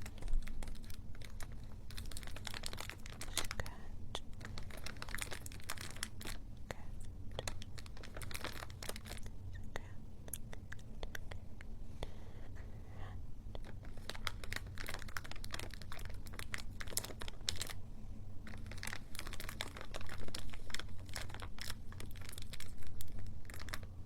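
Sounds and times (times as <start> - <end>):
rapid crinkling crackles: 0.0 - 9.8, 13.6 - 17.8, 18.4 - 24.0.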